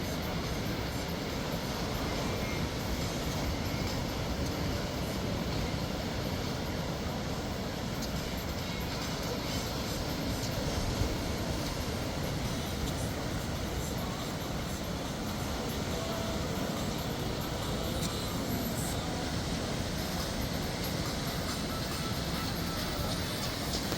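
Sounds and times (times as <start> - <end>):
sea waves washing onto beach: 0.0 - 23.9.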